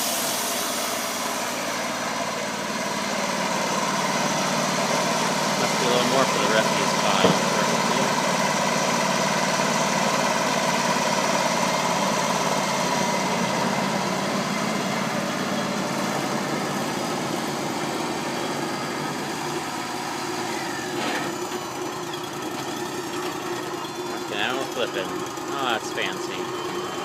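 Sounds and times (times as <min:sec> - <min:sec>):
sawmill engine drone: 0:00.0 - 0:27.0.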